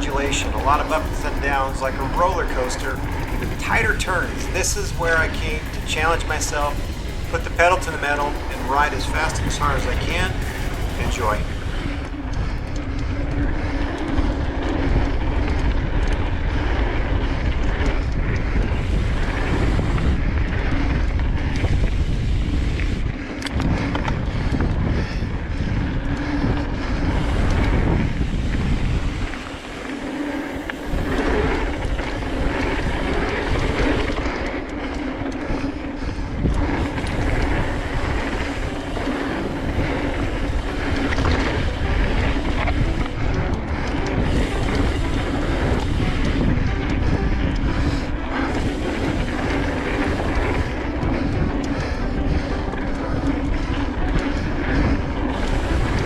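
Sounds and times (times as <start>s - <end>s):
bike tyres rolling over dirt: 0.0s - 56.0s
wind buffeting microphone: 0.0s - 56.0s.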